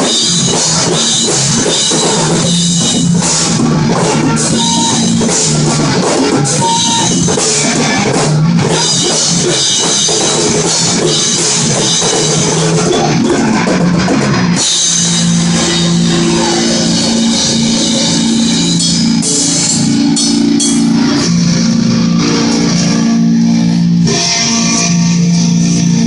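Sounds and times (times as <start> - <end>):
rock music: 0.0 - 26.0.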